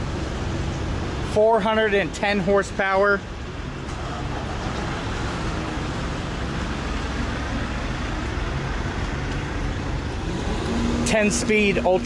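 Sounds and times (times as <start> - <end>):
motor vehicle rumble: 0.0 - 12.0.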